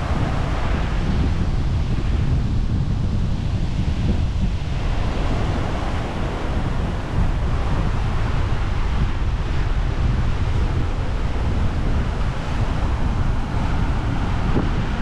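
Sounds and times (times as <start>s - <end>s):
sea surf rushing: 0.0s - 15.0s
wind buffeting microphone: 0.0s - 15.0s.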